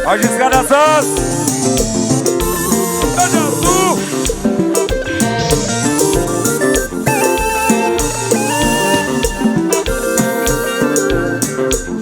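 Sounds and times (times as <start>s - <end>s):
drum kit dance beat: 0.0s - 12.0s
live band playing: 0.0s - 12.0s.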